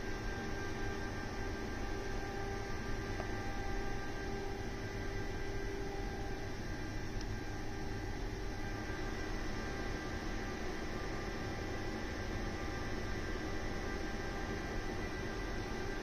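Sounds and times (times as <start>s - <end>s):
lab instruments electrical hum: 0.0s - 16.0s.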